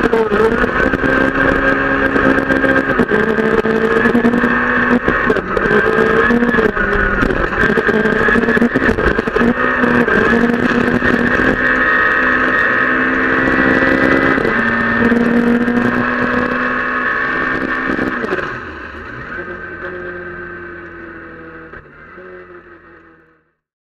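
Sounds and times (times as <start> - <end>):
car engine at high revs: 0.0 - 23.5.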